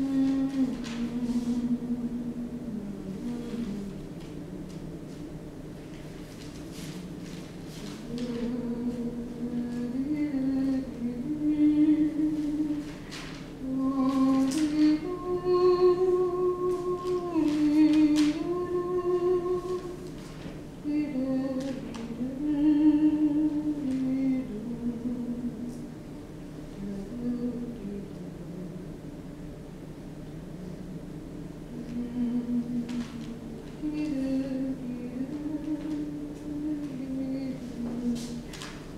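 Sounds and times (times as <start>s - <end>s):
person humming a slow tune: 0.0s - 5.0s, 6.8s - 20.2s, 20.8s - 26.0s, 26.7s - 28.9s, 31.7s - 38.6s.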